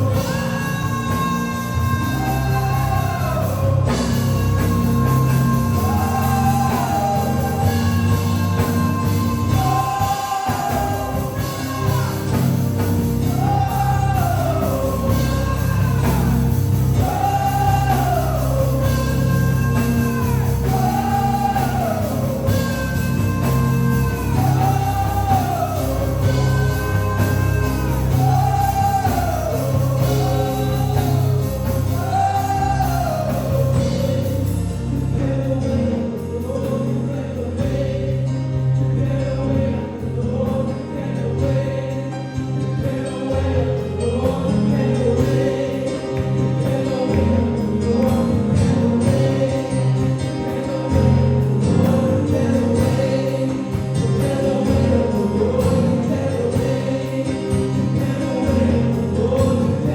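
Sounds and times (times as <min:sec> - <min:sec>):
band accompaniment: 0:00.0 - 0:59.9
person singing gospel: 0:00.0 - 0:59.9.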